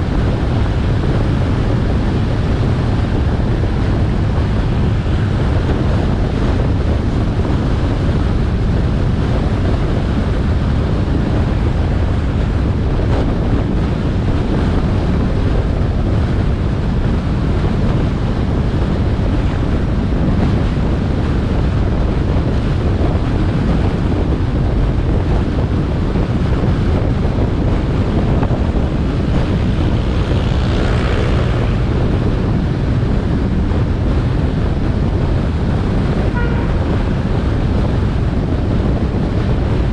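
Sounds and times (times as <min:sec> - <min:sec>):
motorbike engine drone: 0:00.0 - 0:39.9
road noise: 0:00.0 - 0:39.9
wind buffeting microphone: 0:00.0 - 0:39.9.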